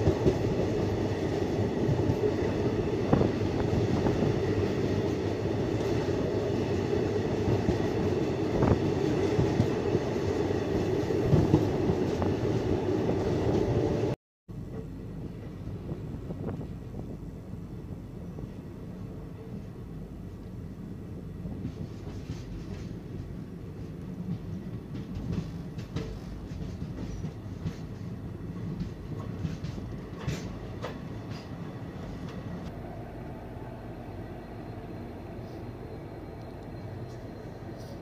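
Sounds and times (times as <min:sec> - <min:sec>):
train rumbling: 0:00.0 - 0:38.0.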